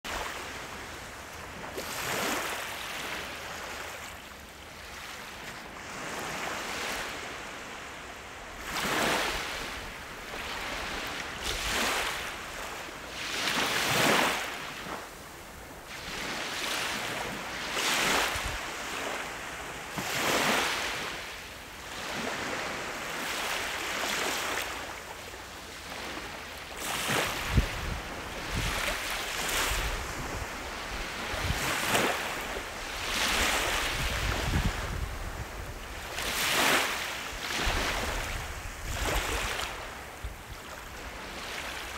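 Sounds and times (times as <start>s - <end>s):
small waves breaking on shore: 0.1s - 41.9s.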